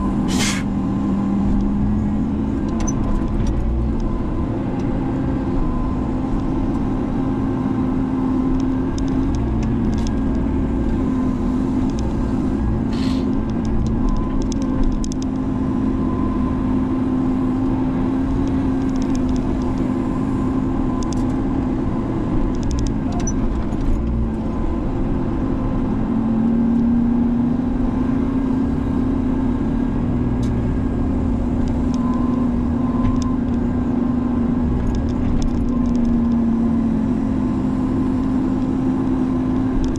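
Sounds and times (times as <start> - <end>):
excavator diesel engine running: 0.0 - 26.7, 27.6 - 39.9.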